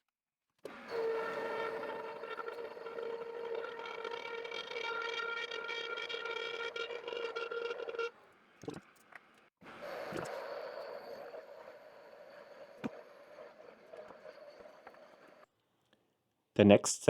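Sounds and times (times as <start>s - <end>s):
lathe whining: 0.6s - 15.5s.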